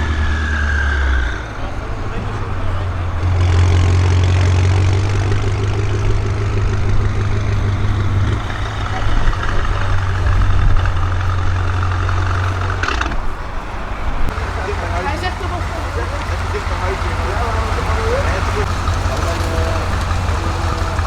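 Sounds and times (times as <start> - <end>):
car engine deep drone: 0.0 - 21.0.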